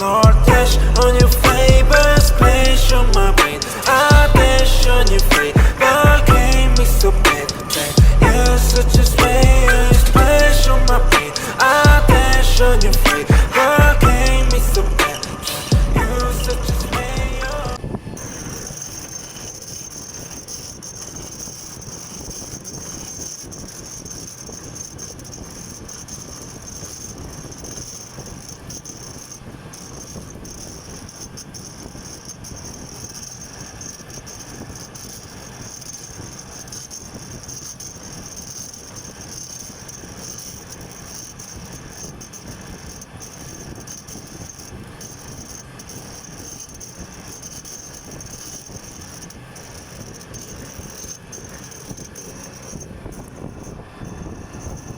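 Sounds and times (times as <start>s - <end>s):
drill drilling into metal: 0.0s - 54.9s.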